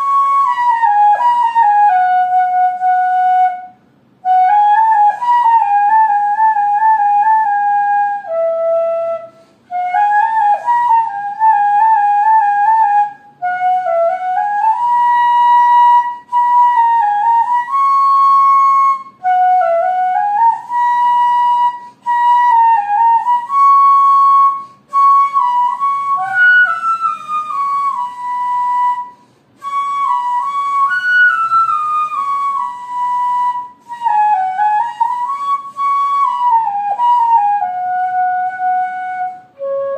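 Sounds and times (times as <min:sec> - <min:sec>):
solo flute melody: 0:00.0 - 0:39.9.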